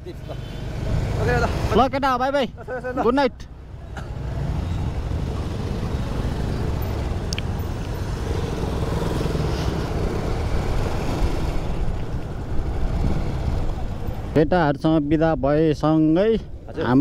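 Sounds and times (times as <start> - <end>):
motorcycle engine rumbling: 0.0 - 16.7.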